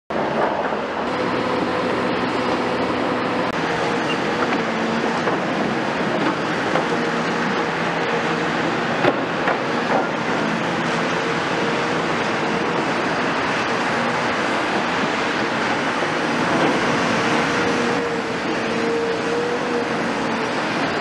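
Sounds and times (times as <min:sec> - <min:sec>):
excavator diesel engines running: 0:00.1 - 0:21.0.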